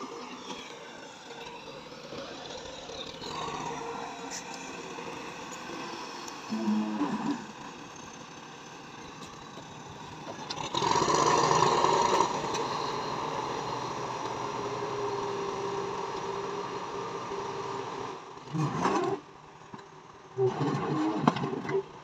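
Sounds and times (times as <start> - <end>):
tractor engine running: 0.0 - 18.5.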